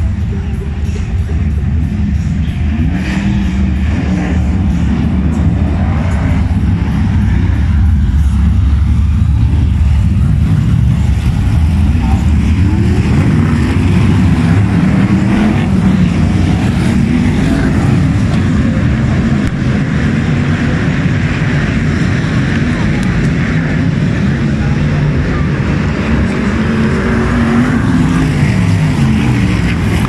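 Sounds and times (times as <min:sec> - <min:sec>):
car engine accelerating: 0:00.0 - 0:30.0
racing car engines rumbling: 0:00.0 - 0:30.0.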